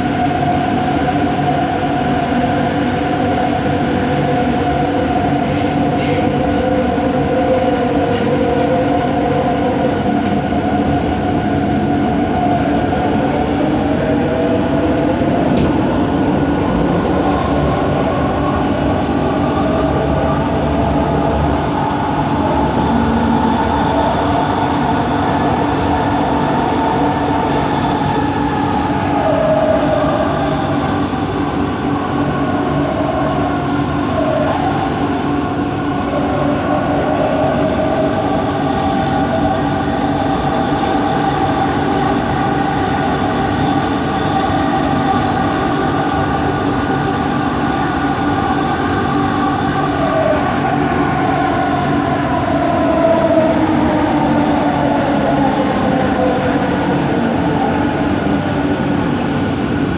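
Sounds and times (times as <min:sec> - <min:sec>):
train motor hum and whine: 0:00.0 - 0:59.9
wavering high whine: 0:00.0 - 0:59.9.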